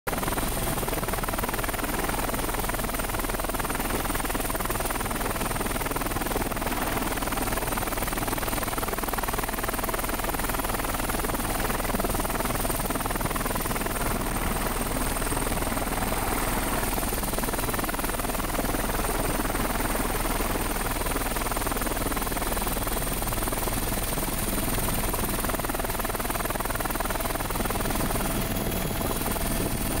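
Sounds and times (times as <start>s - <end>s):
helicopter engine and rotor: 0.1s - 30.0s.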